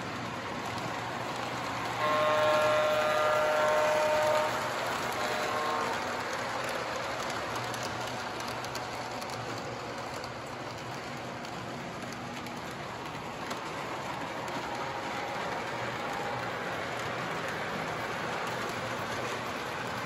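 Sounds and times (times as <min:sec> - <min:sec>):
model train wheels rattling on rails: 0:00.0 - 0:20.0.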